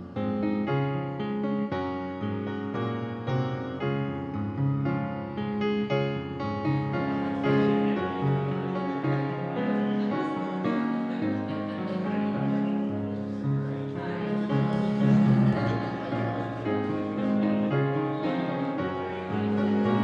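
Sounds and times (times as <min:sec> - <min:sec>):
slow gentle piano piece: 0:00.0 - 0:20.0.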